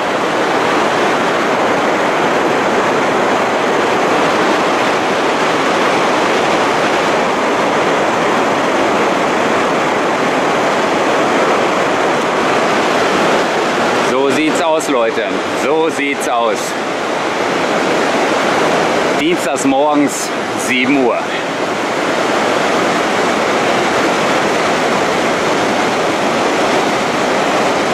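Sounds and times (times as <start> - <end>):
waterfall roaring onto rocks: 0.0 - 27.9.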